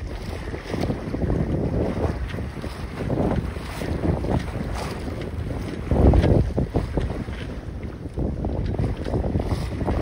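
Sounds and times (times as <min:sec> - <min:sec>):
water washing along hull: 0:00.0 - 0:10.0
wind buffeting microphone: 0:00.0 - 0:10.0.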